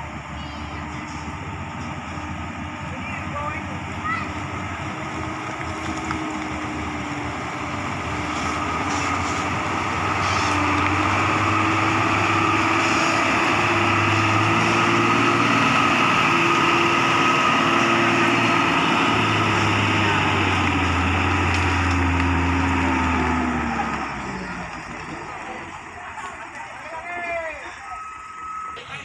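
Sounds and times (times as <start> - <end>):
truck engine running under load: 0.0 - 29.0.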